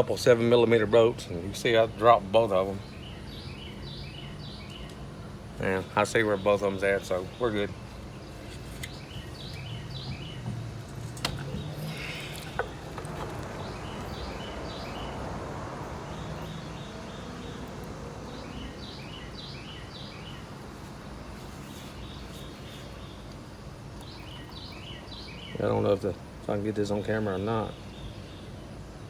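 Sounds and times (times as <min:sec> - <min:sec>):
low background hum: 0:00.0 - 0:29.0
small birds chirping: 0:00.0 - 0:29.0.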